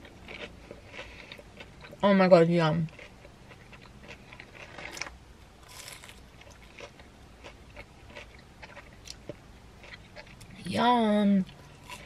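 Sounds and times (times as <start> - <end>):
person chewing: 0.0 - 2.0, 2.9 - 10.6, 11.5 - 12.0.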